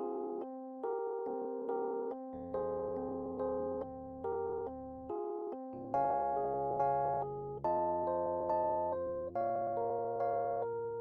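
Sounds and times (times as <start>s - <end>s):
keyboard notes and chords: 0.0s - 11.0s.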